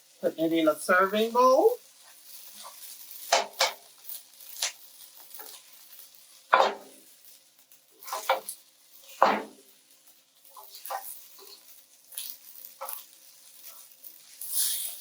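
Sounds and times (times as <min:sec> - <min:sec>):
utensil scraping a wok: 0:01.8 - 0:15.0.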